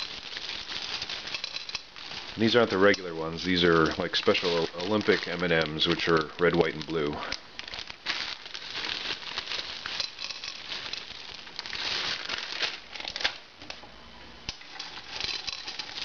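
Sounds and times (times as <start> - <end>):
plastic bag crinkling: 0.0 - 13.5, 14.6 - 16.0.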